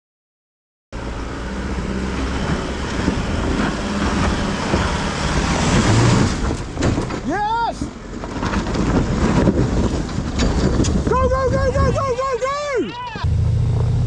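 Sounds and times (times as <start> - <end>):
vehicle engine climbing a dirt track: 1.0 - 14.0.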